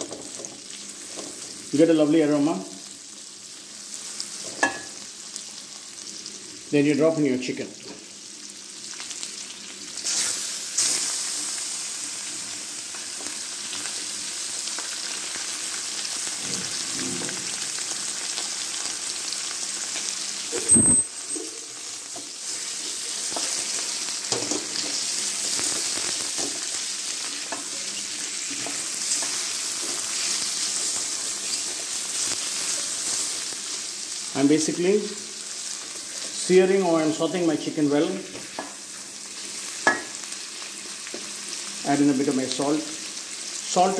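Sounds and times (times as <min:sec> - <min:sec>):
chicken sizzling in a wok: 0:00.0 - 0:43.9.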